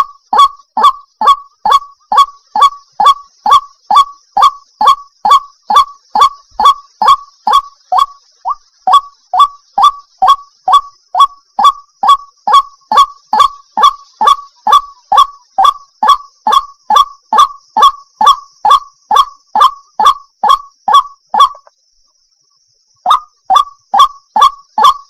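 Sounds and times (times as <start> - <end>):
waterhen calling: 0.0 - 21.7, 23.1 - 25.0.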